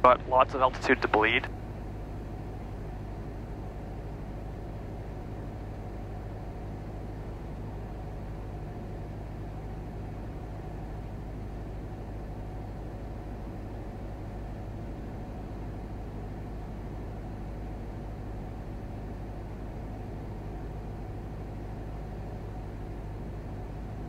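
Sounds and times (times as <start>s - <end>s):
airplane cabin engine drone: 0.0s - 24.0s.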